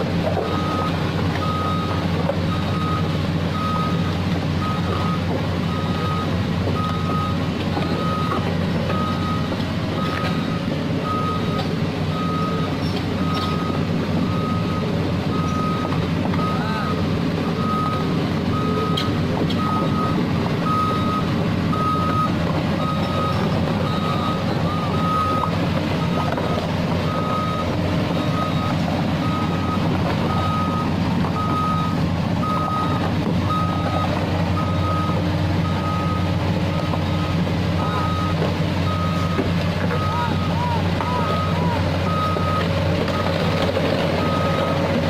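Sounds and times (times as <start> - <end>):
excavator engine running: 0.0 - 45.0
travel alarm beeping: 4.6 - 43.3.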